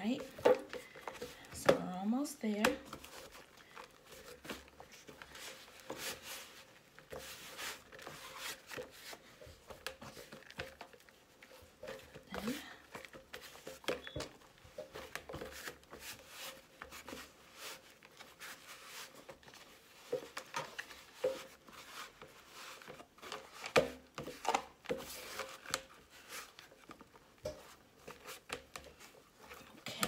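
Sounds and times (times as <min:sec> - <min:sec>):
hands kneading dough in plastic: 0:00.0 - 0:30.0.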